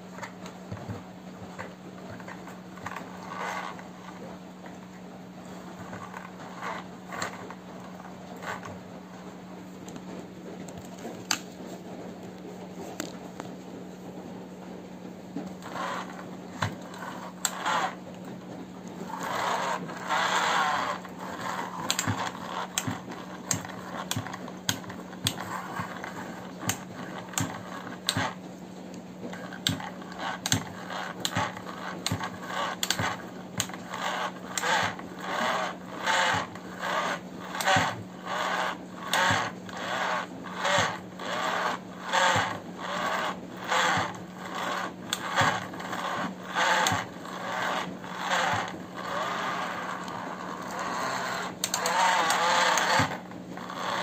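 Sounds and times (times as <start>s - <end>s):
toy excavator whirring and rattling: 0.0s - 13.5s, 15.3s - 54.0s
steady low hum: 0.0s - 54.0s.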